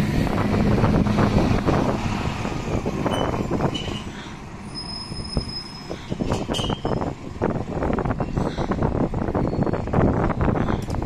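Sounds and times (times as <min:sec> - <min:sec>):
bus engine driving past: 0:00.0 - 0:11.0
wind buffeting microphone: 0:00.0 - 0:11.0.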